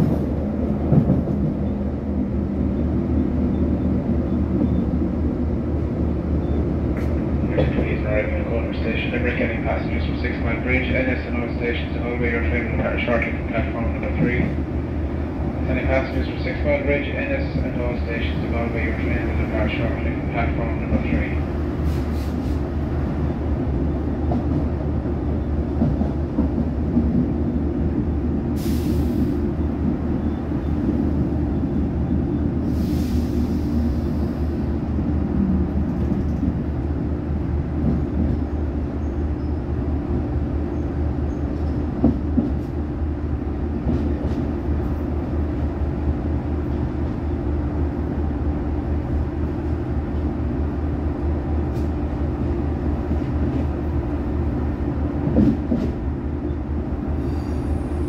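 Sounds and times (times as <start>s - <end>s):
train engine and wheels rumbling: 0.0s - 58.0s.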